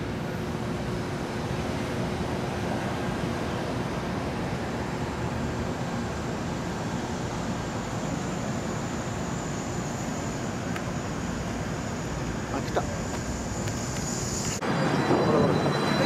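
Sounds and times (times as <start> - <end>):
faint high whine: 0.0 - 16.0
traffic noise: 0.0 - 16.0.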